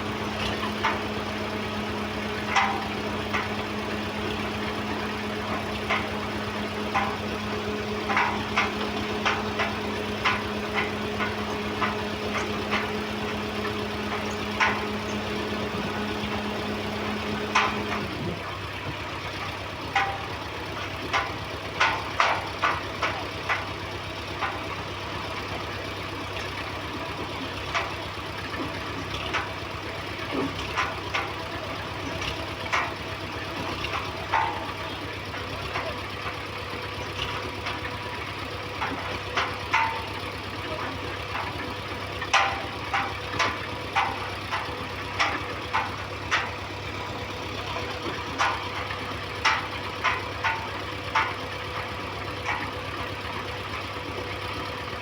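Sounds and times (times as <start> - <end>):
construction machinery engines running: 0.0 - 55.0
metallic clanks and knocks: 0.1 - 55.0.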